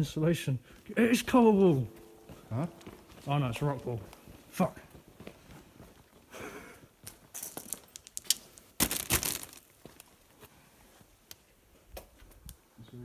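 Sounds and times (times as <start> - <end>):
footsteps crunching on debris: 0.7 - 12.4.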